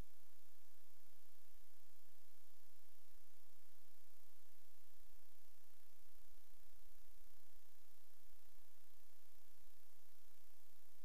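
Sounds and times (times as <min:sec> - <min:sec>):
constant hiss: 0:00.0 - 0:11.0
low electrical hum: 0:00.0 - 0:11.0.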